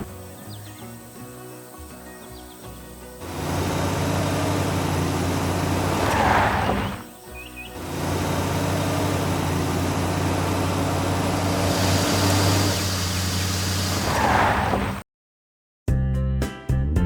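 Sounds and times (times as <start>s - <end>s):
heavy vehicle engine humming: 0.0s - 1.7s, 2.4s - 15.0s.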